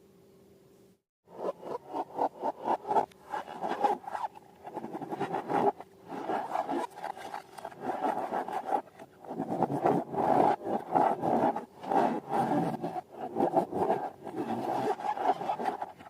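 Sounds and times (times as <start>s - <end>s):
hands scraping and rubbing slime: 1.4s - 16.0s.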